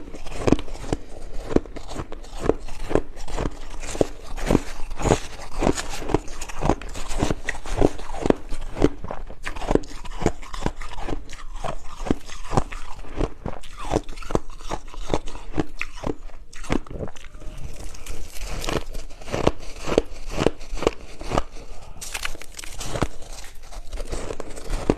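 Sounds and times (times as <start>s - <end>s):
ice crunching as chewed: 0.0s - 24.9s.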